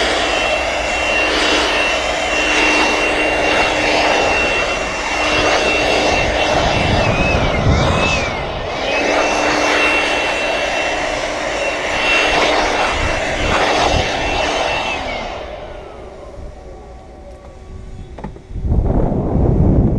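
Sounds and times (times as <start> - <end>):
machine motor whining: 0.0 - 18.6.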